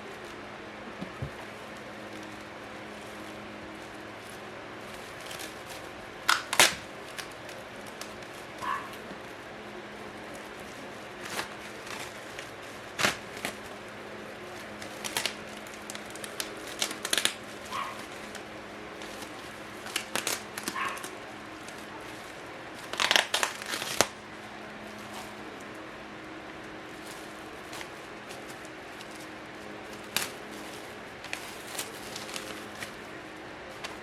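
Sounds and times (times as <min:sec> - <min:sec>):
plastic packaging crinkling: 0:01.0 - 0:34.0.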